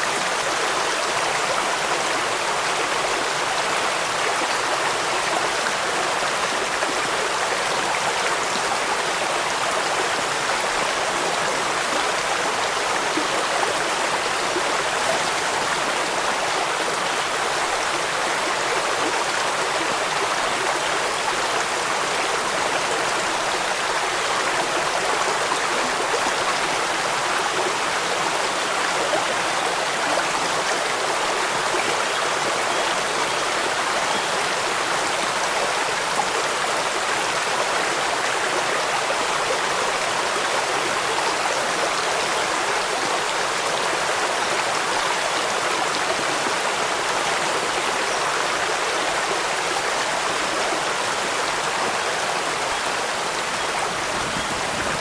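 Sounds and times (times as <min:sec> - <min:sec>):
rain: 0:00.0 - 0:55.0
running water: 0:00.0 - 0:55.0.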